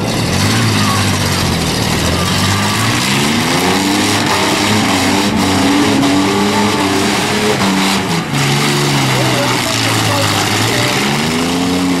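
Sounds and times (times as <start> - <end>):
van engines revving hard: 0.0 - 12.0.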